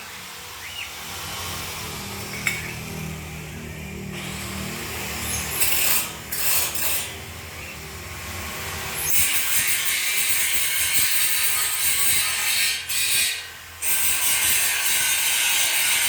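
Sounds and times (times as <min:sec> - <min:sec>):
harsh metalworking bursts: 0:00.0 - 0:16.0.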